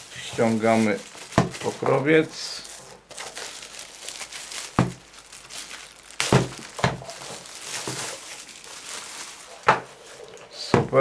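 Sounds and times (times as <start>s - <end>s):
plastic cover crinkling: 0.0s - 11.0s.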